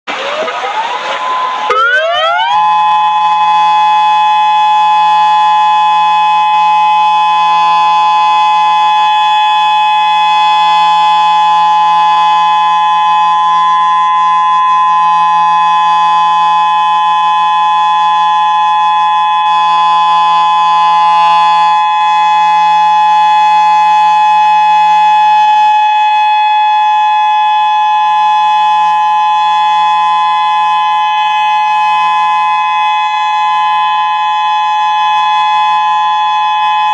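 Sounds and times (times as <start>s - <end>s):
electronic warning siren steady tone: 0.1s - 36.9s.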